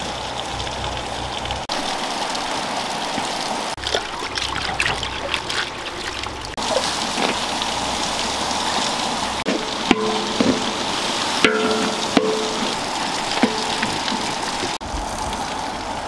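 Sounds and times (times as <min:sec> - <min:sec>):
water splashing in a pot: 0:00.0 - 0:16.0.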